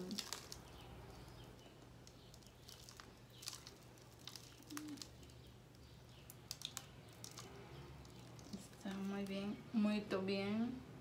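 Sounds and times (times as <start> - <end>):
soil rustling: 0.0 - 9.6
low steady hum: 0.0 - 11.0.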